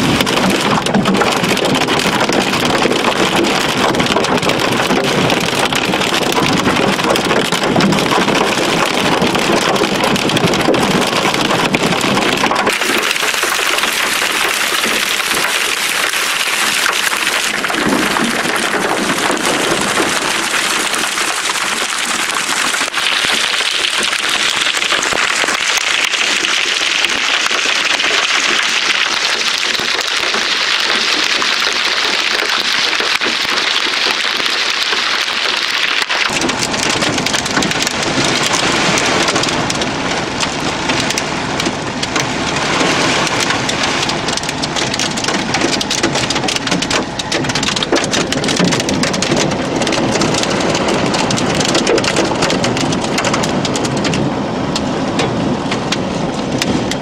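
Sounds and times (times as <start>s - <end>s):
hail and rain pelting a car: 0.0s - 57.0s.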